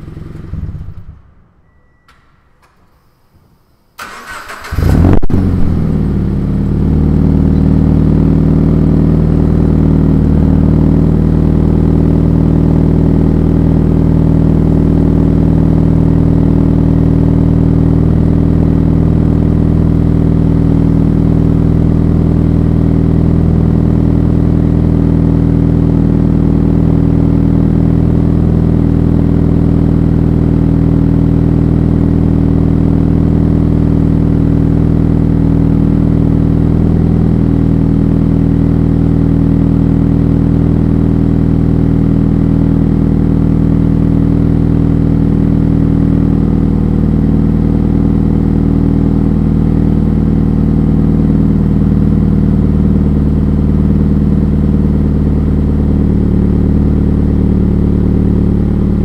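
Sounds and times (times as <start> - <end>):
car engine revving and idling: 0.0 - 1.8, 4.0 - 59.0.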